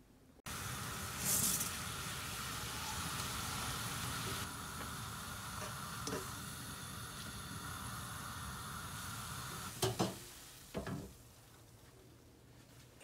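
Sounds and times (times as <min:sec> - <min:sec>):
water boiling and bubbling: 0:00.5 - 0:11.4.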